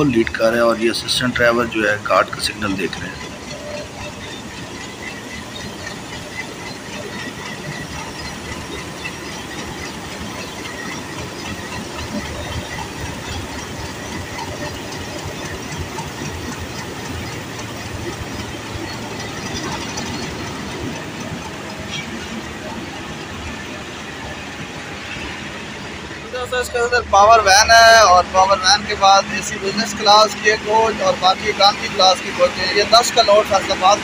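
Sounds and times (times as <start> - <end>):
faint high-pitched squeal: 0.0 - 34.0
locomotive engine and running gear: 0.0 - 34.0.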